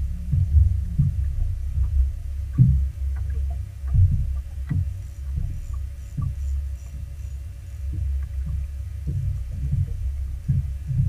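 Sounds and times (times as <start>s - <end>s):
choppy water: 0.0s - 11.0s
faint steady hum: 0.0s - 11.0s
waves thumping against hull: 0.0s - 11.0s
wind rumble: 0.0s - 11.0s.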